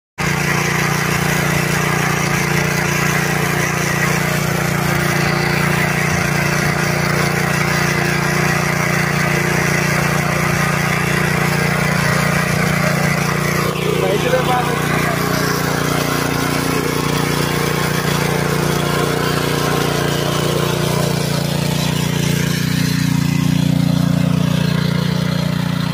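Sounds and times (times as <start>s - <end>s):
weeder engine running: 0.2s - 25.9s.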